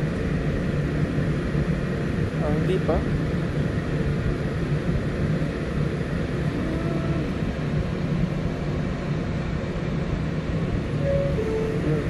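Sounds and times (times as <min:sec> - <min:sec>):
subway car humming: 0:00.0 - 0:12.0.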